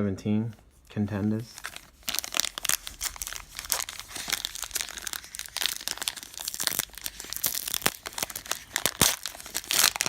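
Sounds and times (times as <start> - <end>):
plastic wrapping crinkling: 1.3 - 10.0.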